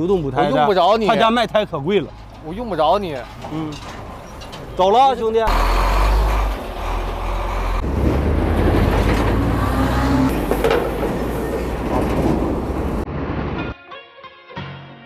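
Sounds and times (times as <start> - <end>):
truck diesel engine rumbling: 0.0 - 13.5.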